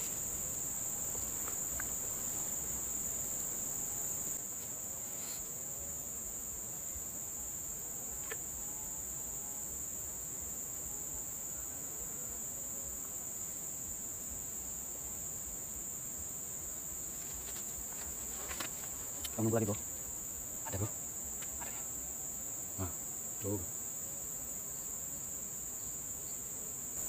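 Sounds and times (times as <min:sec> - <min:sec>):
insect chorus drone: 0:00.0 - 0:27.0.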